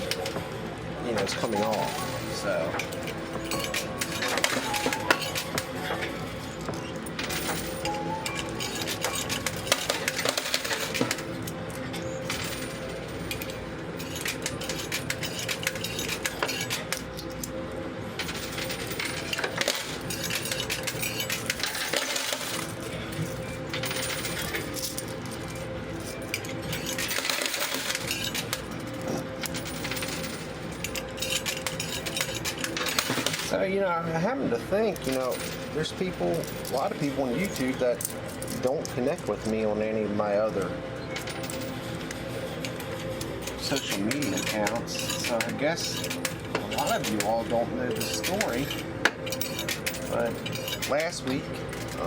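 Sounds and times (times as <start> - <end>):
coins clinking and dropping: 1.1 - 17.6, 18.2 - 33.6, 34.8 - 52.0.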